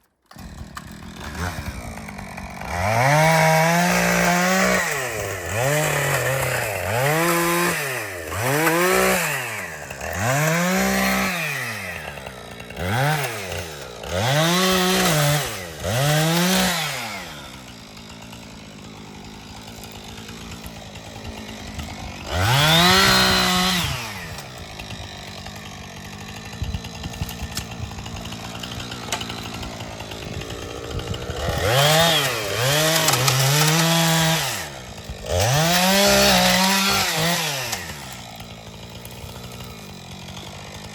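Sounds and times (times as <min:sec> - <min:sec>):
chainsaw engine revving: 0:00.1 - 0:40.9.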